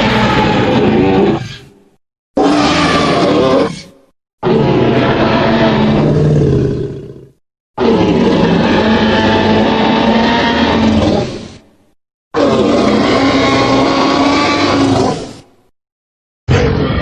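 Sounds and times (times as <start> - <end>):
deep dinosaur roar: 0.0 - 1.7, 2.4 - 11.6, 12.4 - 15.5, 16.5 - 17.0.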